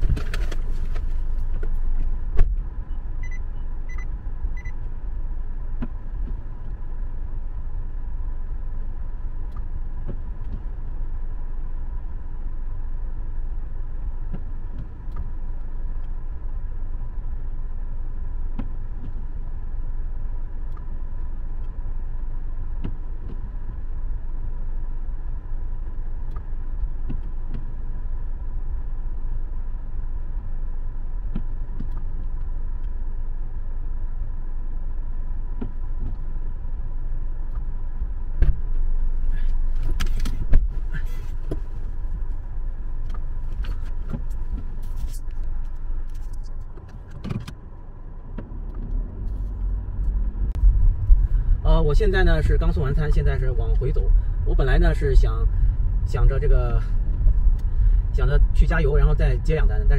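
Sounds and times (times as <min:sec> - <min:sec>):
car cabin rumble: 0:00.0 - 0:59.9.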